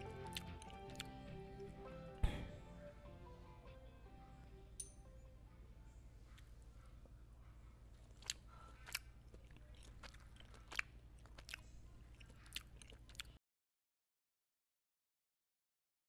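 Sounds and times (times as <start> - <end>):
low steady hum: 0.0 - 13.4.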